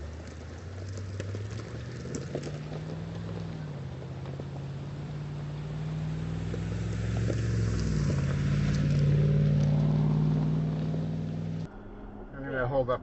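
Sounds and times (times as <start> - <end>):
off-road vehicle engine running: 0.0 - 11.8.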